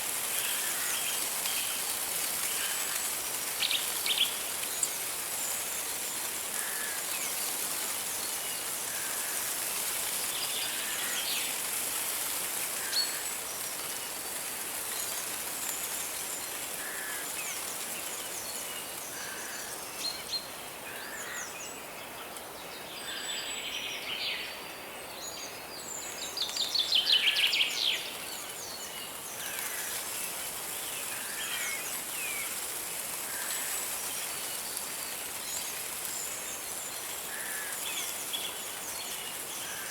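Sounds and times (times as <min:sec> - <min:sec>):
running water hiss: 0:00.0 - 0:23.5, 0:25.2 - 0:39.9.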